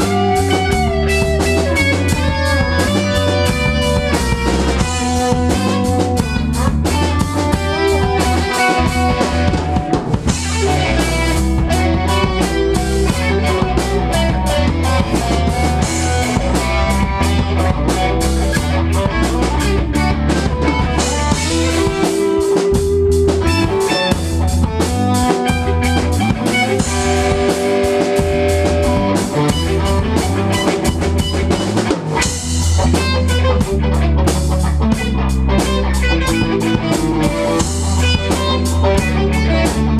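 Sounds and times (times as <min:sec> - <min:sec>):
drum kit: 0:00.0 - 0:39.9
electric bass: 0:00.0 - 0:39.9
guitar: 0:00.0 - 0:39.9.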